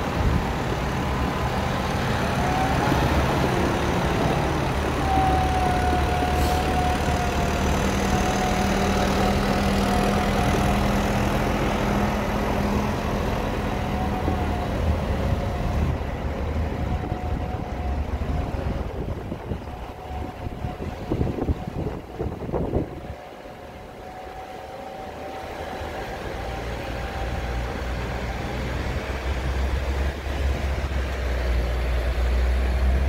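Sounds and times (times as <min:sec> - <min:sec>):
tractor diesel engine: 0:00.0 - 0:33.0.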